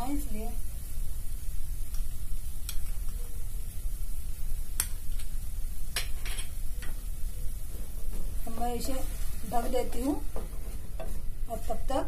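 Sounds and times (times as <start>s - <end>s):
crackles and pops: 0.0s - 11.8s
peas sizzling in oil: 0.0s - 12.0s.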